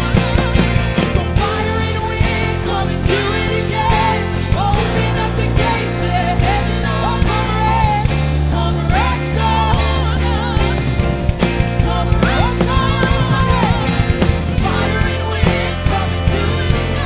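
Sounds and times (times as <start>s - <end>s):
live worship band music: 0.0s - 17.0s.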